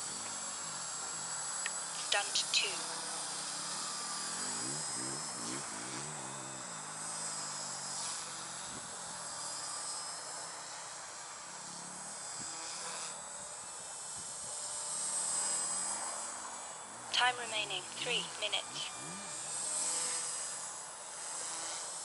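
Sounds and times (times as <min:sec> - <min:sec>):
toy helicopter rotors whining: 0:00.0 - 0:22.0.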